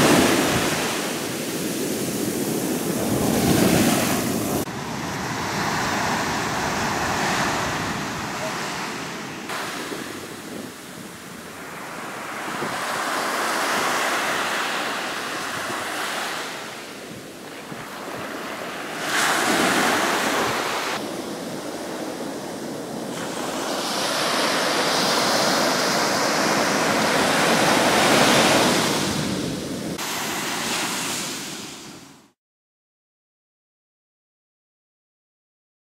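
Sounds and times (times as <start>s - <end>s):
waves washing up sandy beach: 0.0s - 32.4s.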